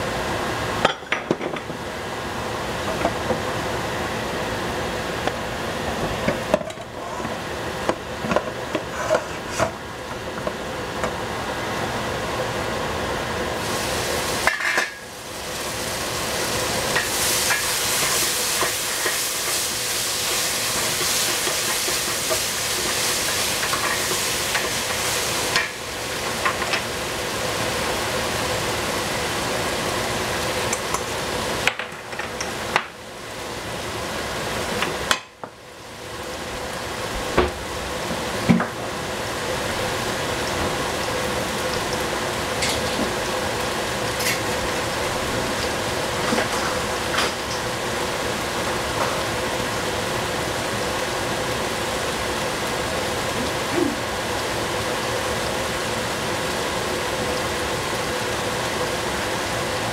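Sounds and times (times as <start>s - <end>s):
vegetables sizzling in a pan: 1.6s - 59.9s.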